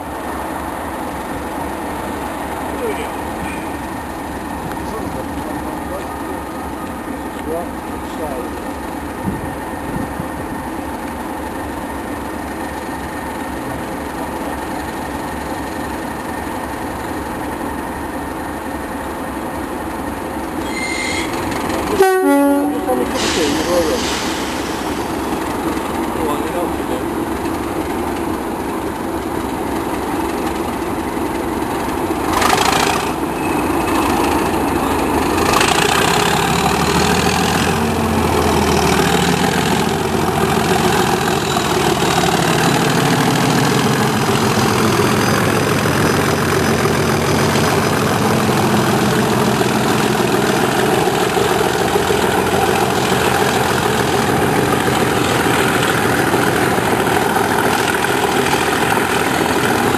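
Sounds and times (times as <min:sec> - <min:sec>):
diesel locomotive engines running: 0:00.0 - 0:59.9.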